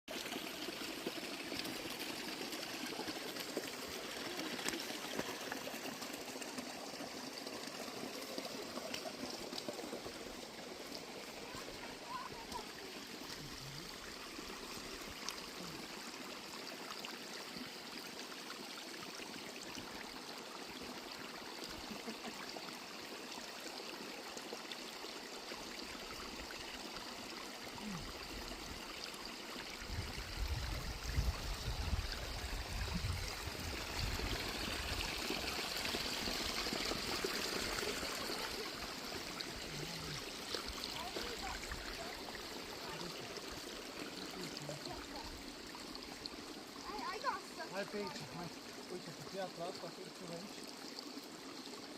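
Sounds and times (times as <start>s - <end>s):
stream flowing: 0.1s - 51.9s.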